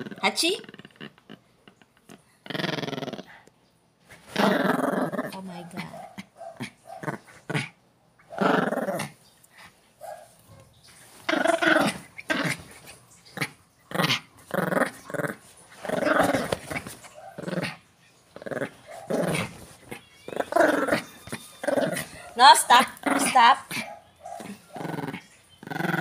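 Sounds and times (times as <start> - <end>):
small dog growling: 0.0 - 3.5, 4.2 - 9.7, 11.2 - 17.8, 18.4 - 22.2, 22.8 - 26.0.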